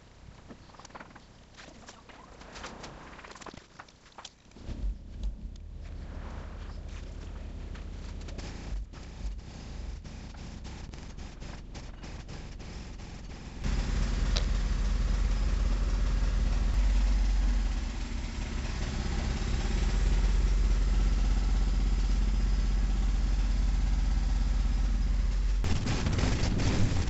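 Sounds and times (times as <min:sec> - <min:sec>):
engine-like low rumble: 0:04.5 - 0:27.0.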